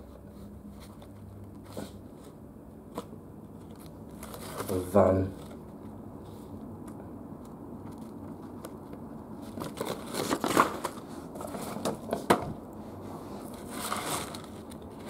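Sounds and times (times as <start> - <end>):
paper rustling and crinkling: 0.3 - 6.6, 7.4 - 12.6, 13.3 - 15.0.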